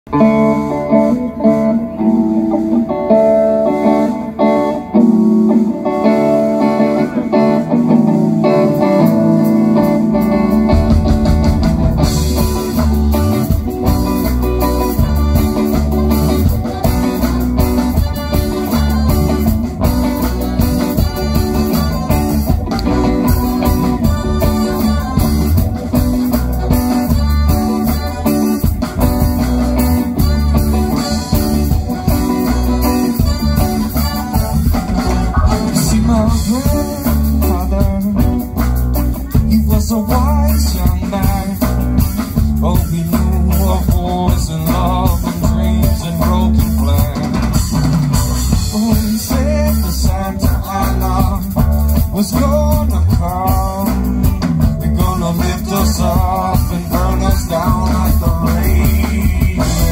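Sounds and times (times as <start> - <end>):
bass guitar: 0.0 - 59.9
drums: 0.0 - 59.9
electric guitar: 0.0 - 59.9
keyboards: 0.0 - 59.9.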